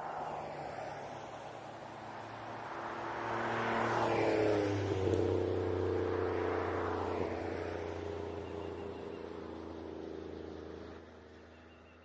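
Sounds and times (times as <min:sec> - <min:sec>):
car engine and exhaust passing: 0:00.0 - 0:12.0.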